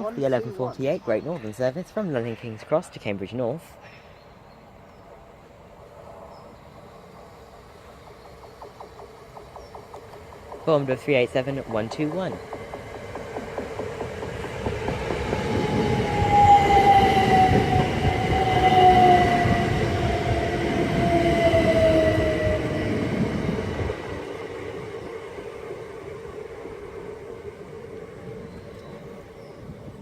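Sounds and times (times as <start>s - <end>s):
train wheels rumbling: 5.9s - 30.0s.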